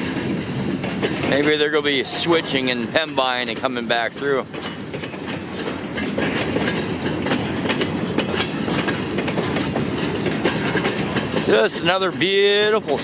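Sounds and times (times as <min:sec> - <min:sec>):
freight train rumbling past: 0:00.0 - 0:13.0
train wheels clacking: 0:00.0 - 0:13.0.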